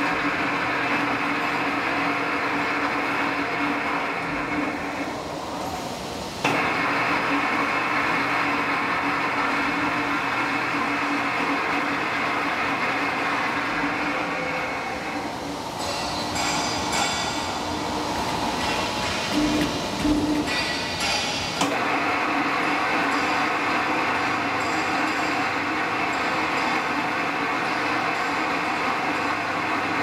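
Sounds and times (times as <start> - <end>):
plate rolling machine humming: 0.0 - 30.0.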